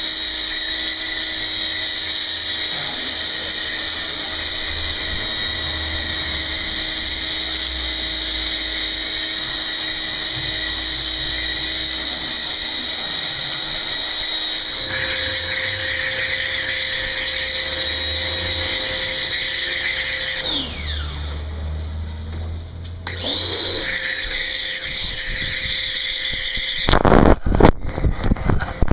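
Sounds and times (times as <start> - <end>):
pressure washer motor whining: 0.0 - 28.9.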